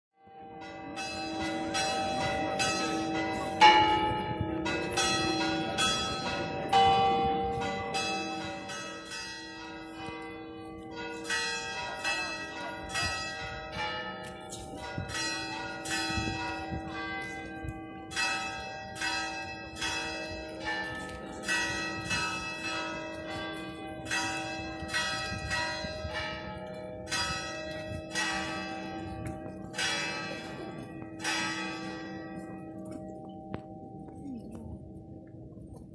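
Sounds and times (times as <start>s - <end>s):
church bells pealing: 0.2s - 35.3s.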